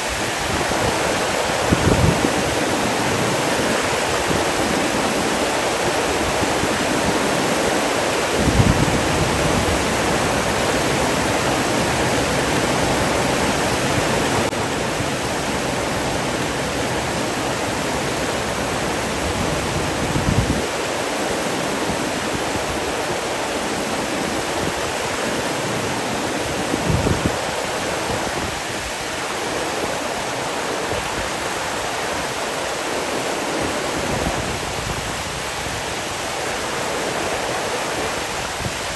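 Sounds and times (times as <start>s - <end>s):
rushing water roar: 0.0s - 38.9s.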